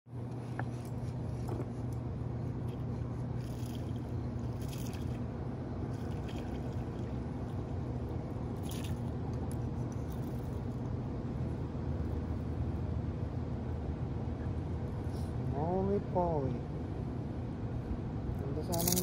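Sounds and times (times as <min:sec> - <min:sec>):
low hum: 0:00.1 - 0:19.0
low rumble of moving water: 0:00.1 - 0:19.0.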